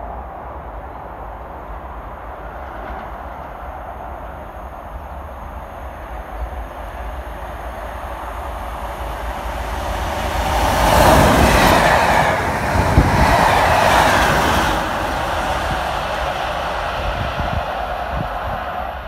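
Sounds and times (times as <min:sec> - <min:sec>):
diesel locomotive passing: 0:00.0 - 0:19.0.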